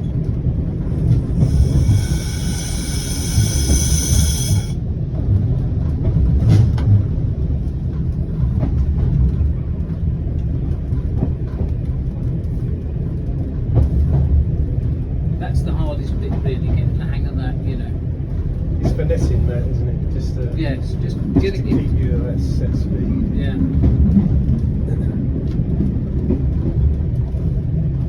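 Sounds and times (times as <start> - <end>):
railcar engine and wheels rumbling: 0.0 - 28.0.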